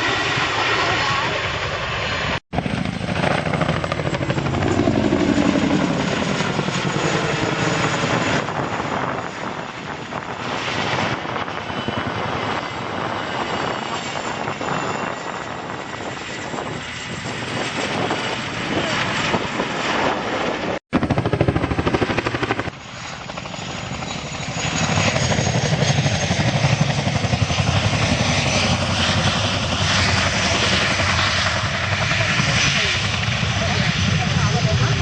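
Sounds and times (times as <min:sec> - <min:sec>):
helicopter rotor blades chopping: 0:00.0 - 0:35.0.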